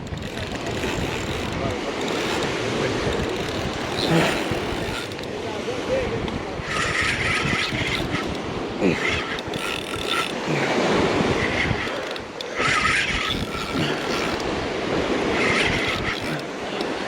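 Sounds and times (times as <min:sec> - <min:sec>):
waves and moving water: 0:00.0 - 0:17.0
wind buffeting microphone: 0:00.0 - 0:17.0.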